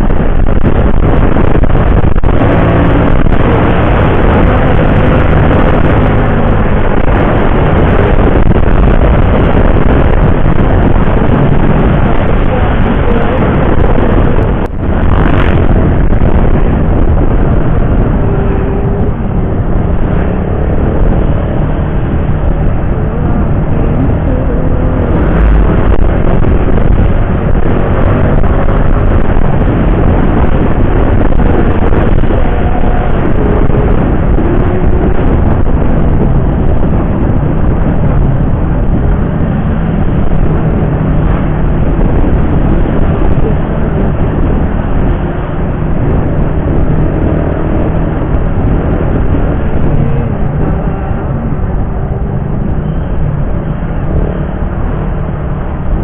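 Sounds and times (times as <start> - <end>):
motorcycle engine: 0.0 - 56.0
road noise: 0.0 - 56.0
traffic: 0.0 - 56.0
wind rushing: 0.0 - 56.0.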